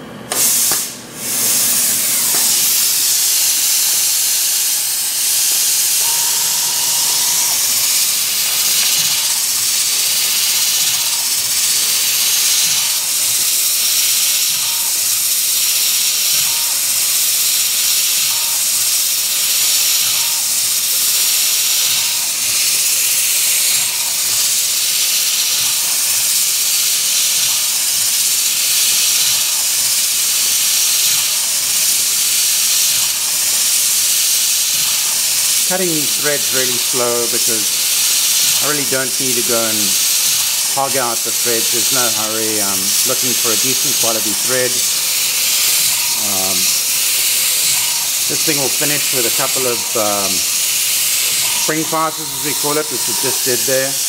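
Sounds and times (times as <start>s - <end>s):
compressed air sprayer hissing: 0.2s - 54.0s.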